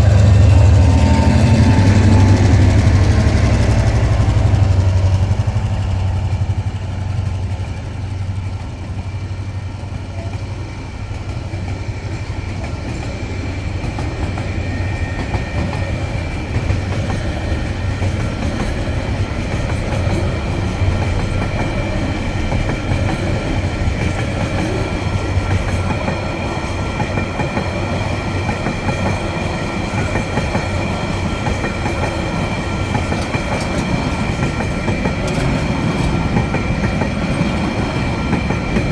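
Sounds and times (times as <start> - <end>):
locomotive engine hum: 0.0 - 38.9
train wheels clattering on rails: 0.0 - 38.9.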